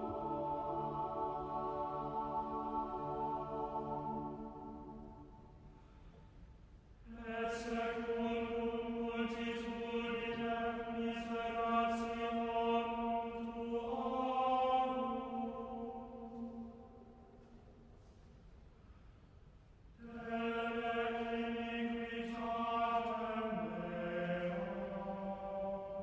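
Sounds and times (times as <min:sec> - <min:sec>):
choir singing chant in unison: 0:00.0 - 0:05.4, 0:07.1 - 0:16.8, 0:20.0 - 0:26.0.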